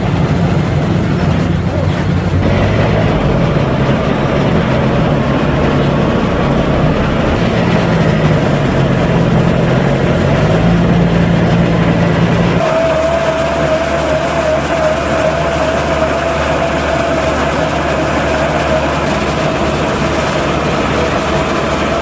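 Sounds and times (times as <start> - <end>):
steady mechanical whine: 0.0 - 22.0
tractor engine running under load: 0.0 - 22.0.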